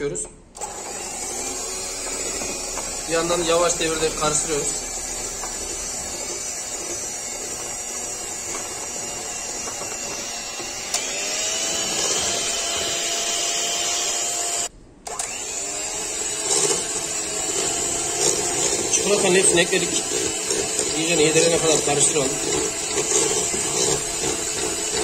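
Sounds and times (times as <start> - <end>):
electric hand mixer whisking: 0.6 - 25.0.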